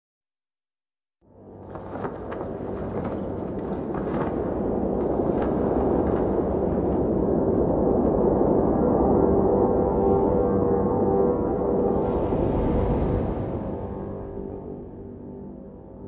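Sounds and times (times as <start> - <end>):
low drone music: 1.2 - 16.0.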